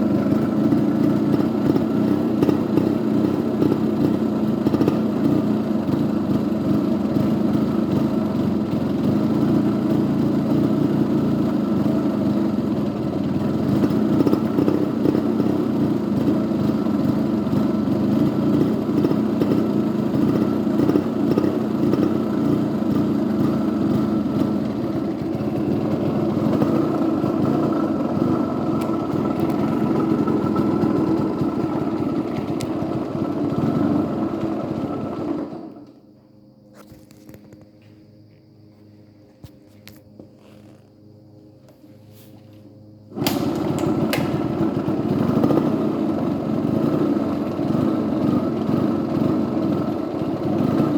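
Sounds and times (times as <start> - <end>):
two-stroke engine running: 0.0 - 36.0, 43.1 - 50.9.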